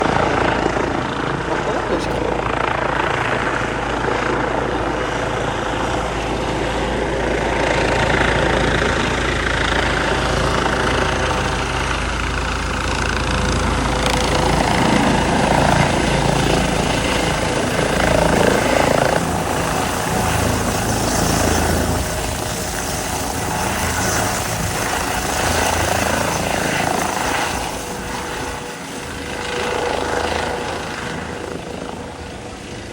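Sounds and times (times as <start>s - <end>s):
helicopter turbine and rotor: 0.0s - 32.9s.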